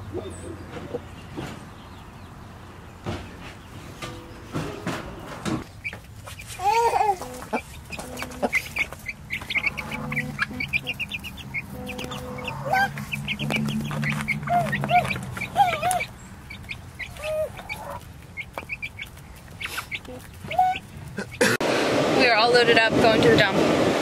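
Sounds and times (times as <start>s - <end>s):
chicks peeping: 0.0s - 21.4s
chickens clucking: 0.0s - 21.6s.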